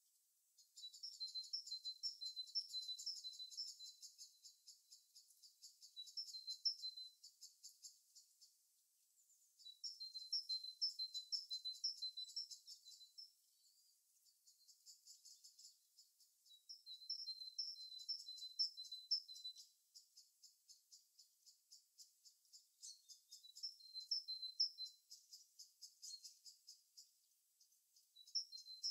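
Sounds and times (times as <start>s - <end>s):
songbird singing rapid notes: 0.6s - 28.9s.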